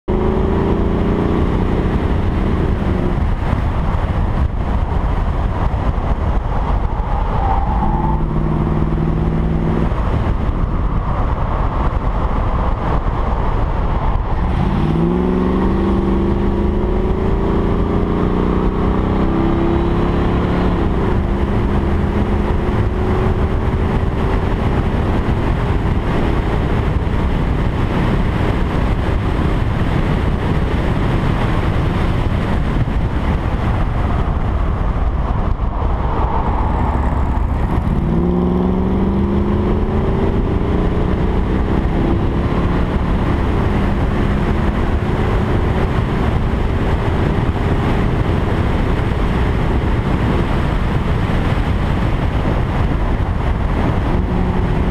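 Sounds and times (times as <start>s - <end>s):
car engine revving: 0.0s - 54.9s
wind and road noise: 0.0s - 54.9s.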